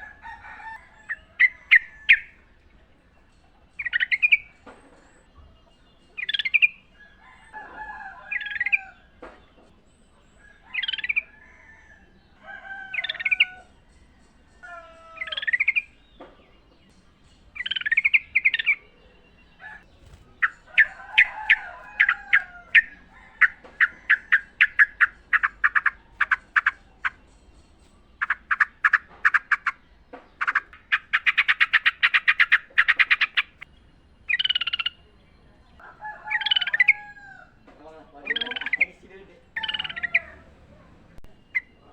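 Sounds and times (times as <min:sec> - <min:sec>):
bulbuls calling: 0:00.0 - 0:13.7, 0:14.6 - 0:41.9.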